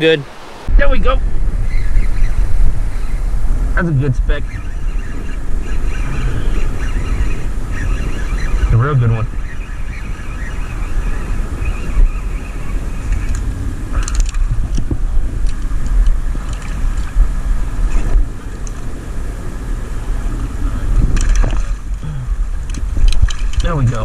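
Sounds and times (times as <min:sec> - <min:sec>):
surf water: 0:00.0 - 0:24.0
wind rumble on microphone: 0:00.0 - 0:24.0.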